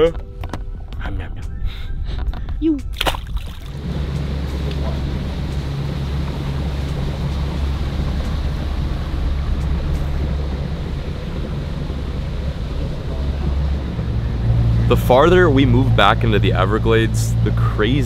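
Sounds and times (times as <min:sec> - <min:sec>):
water rushing along hull: 0:02.9 - 0:18.0
outboard motor running: 0:03.0 - 0:18.0.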